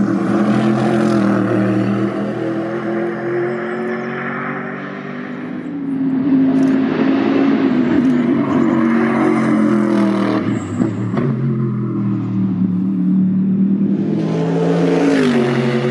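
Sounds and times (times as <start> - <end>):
race car engine at speed: 0.0 - 15.9.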